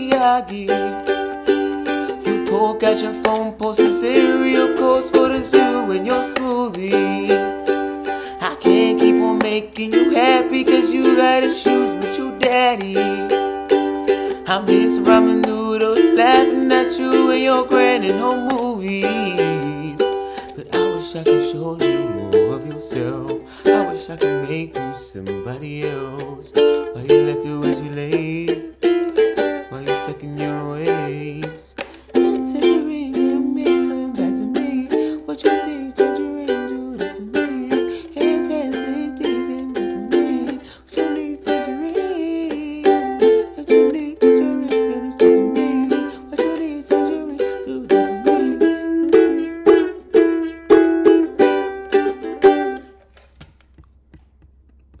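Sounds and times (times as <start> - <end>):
ukulele strumming: 0.0 - 55.0.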